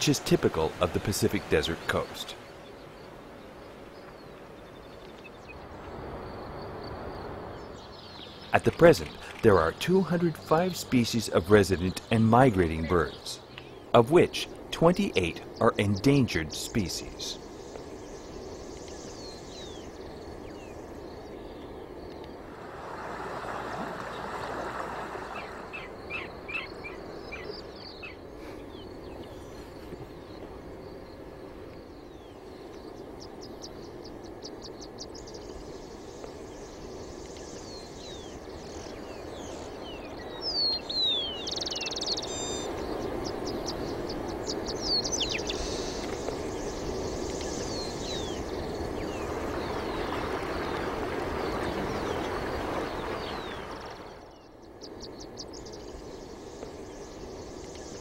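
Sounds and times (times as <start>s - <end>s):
birds calling: 0.0s - 58.0s
low rushing background: 0.0s - 58.0s.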